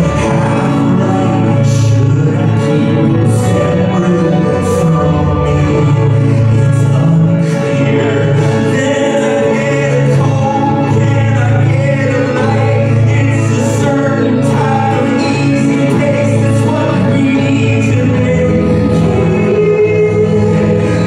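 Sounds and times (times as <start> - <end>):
live band music: 0.0 - 21.0
person singing: 0.0 - 21.0.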